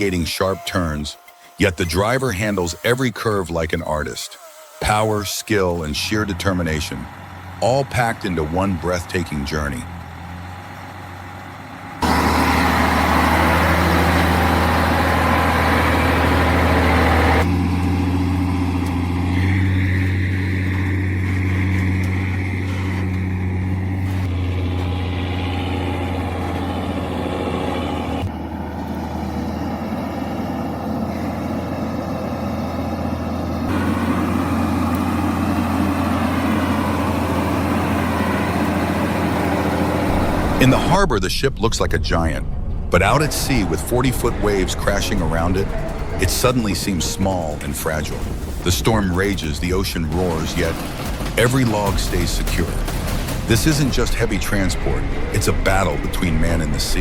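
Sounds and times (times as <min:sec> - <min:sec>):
truck diesel engine running: 0:00.0 - 0:04.2, 0:04.8 - 0:57.0.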